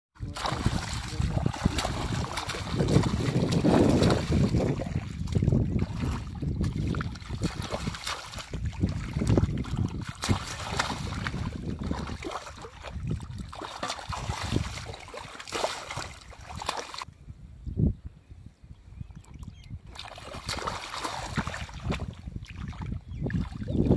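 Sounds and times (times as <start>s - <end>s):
hands splashing in muddy water: 0.2s - 17.1s, 19.9s - 23.9s.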